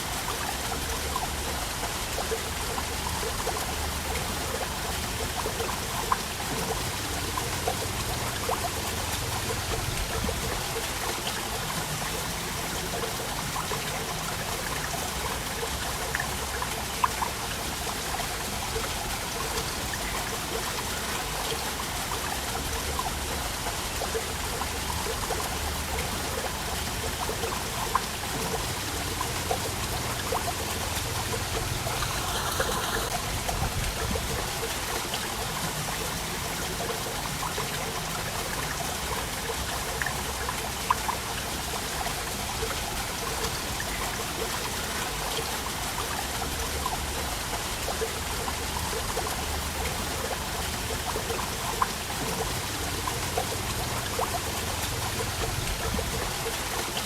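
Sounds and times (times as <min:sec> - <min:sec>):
water trickling and splashing: 0:00.0 - 0:57.0
waterfall rushing: 0:00.0 - 0:57.0.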